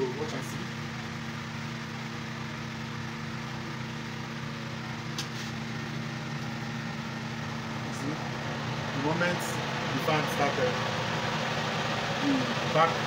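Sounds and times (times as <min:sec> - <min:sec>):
extractor fan running: 0:00.0 - 0:13.0.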